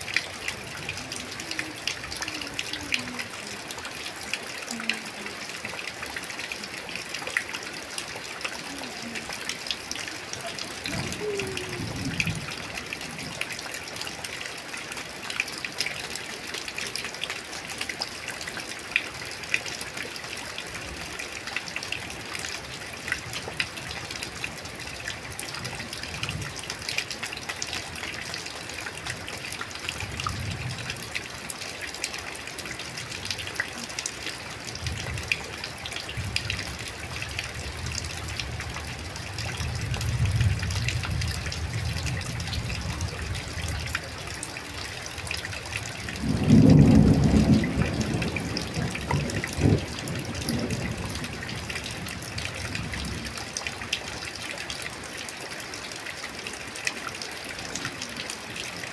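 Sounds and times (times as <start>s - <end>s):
light rain falling: 0.0s - 58.9s.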